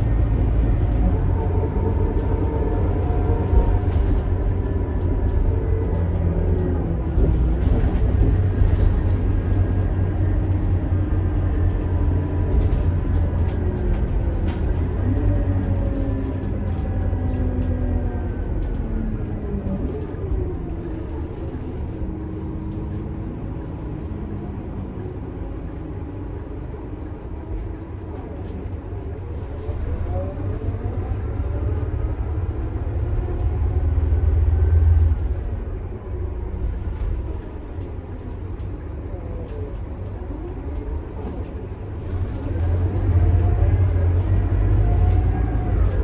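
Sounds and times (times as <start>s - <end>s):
bus diesel engine rumbling: 0.0s - 46.0s.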